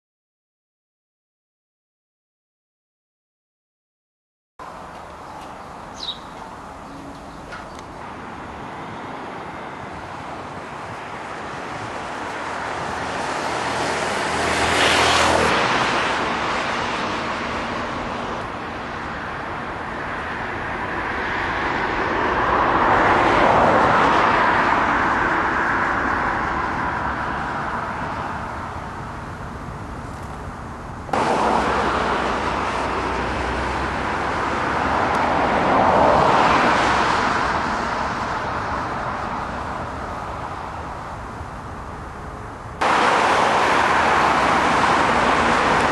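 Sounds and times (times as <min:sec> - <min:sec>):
jet aircraft passing overhead: 0:05.1 - 0:30.2, 0:30.8 - 0:45.9.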